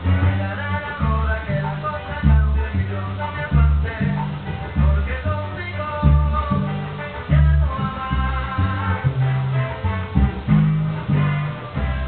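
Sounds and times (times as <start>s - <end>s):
electric upright bass plucking: 0.0s - 12.0s
salsa music recording: 0.0s - 12.0s.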